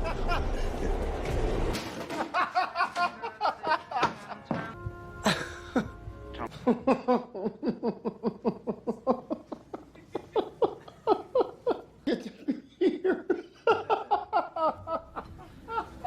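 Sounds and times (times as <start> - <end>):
person laughing hard: 2.1 - 16.0.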